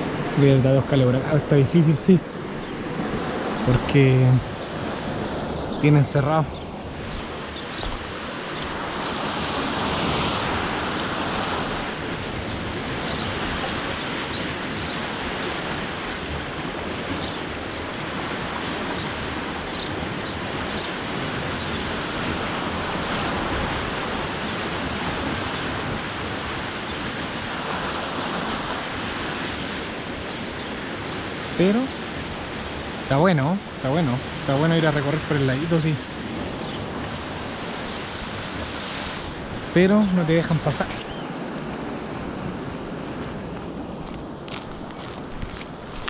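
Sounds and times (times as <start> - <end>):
flowing water rushing: 0.0 - 46.0.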